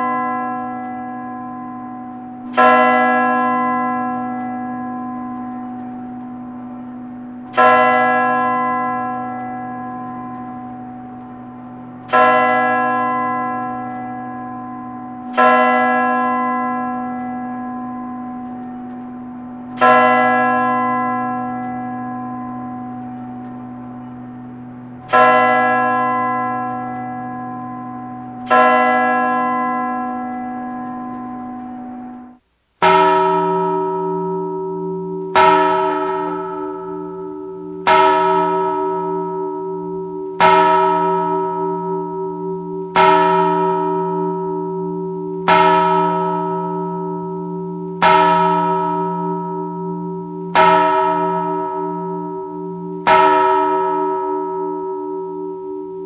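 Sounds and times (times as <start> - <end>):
church bell tolling: 0.0 - 56.0
lower-pitched bell tolling: 0.0 - 56.0.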